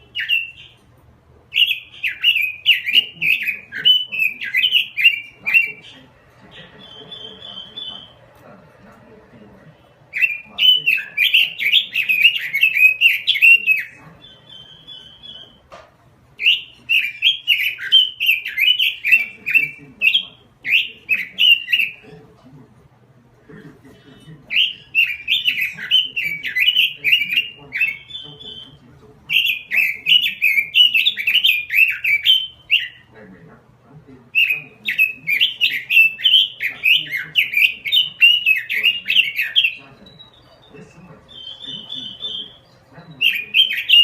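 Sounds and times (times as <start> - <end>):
bird fluty warbling: 0.0 - 0.9, 1.5 - 15.7, 16.4 - 22.2, 23.9 - 33.3, 34.3 - 44.0.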